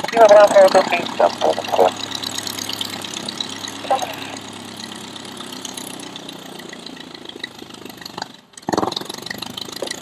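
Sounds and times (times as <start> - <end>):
propeller engine idling: 0.0 - 10.0.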